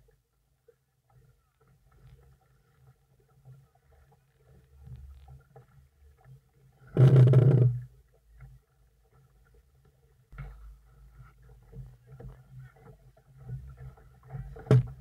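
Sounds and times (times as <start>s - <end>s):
water splashing against camera: 1.2s - 8.6s, 10.3s - 15.0s.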